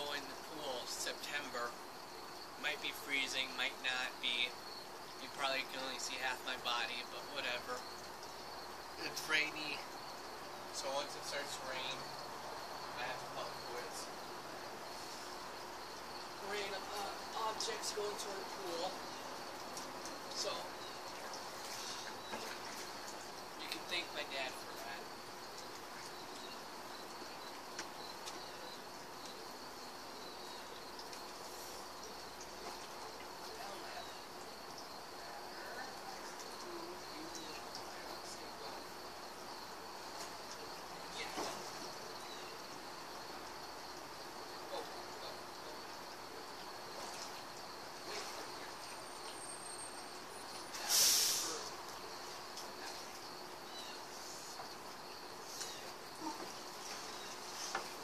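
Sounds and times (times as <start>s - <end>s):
crickets droning: 0.0s - 58.0s
soft even hiss: 0.0s - 58.0s.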